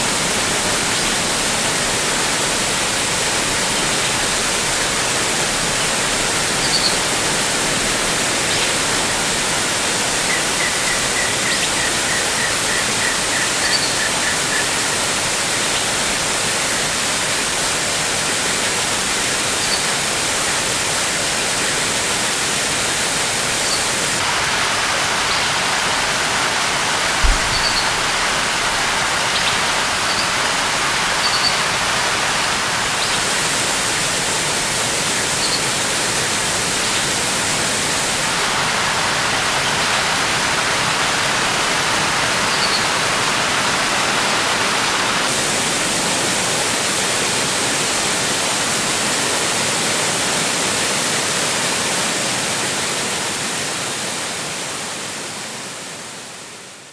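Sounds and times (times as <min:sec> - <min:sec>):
waterfall splashing into pool: 0:00.0 - 0:56.9.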